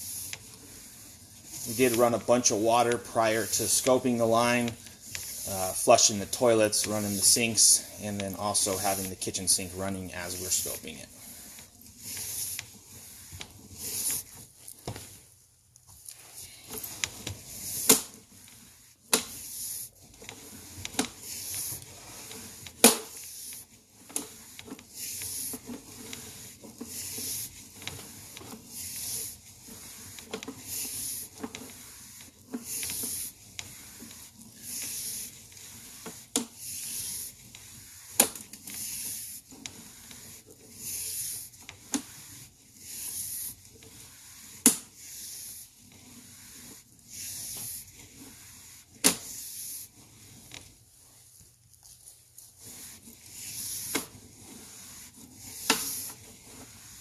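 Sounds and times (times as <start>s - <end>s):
cable rubbing through drain: 0.0s - 14.5s, 16.7s - 50.8s.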